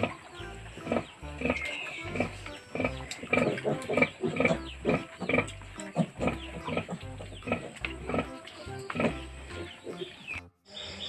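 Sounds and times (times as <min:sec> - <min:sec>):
pigs grunting: 0:00.0 - 0:10.3.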